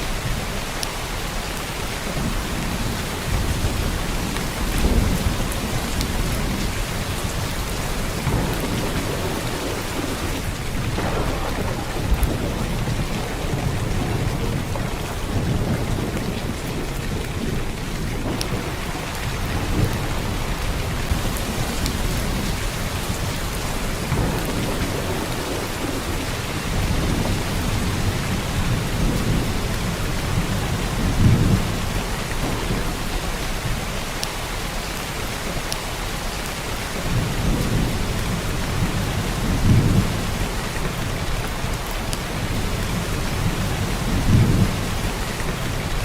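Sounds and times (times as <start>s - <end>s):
heavy rain: 0.0s - 46.0s
thunder rumbling: 0.0s - 46.0s.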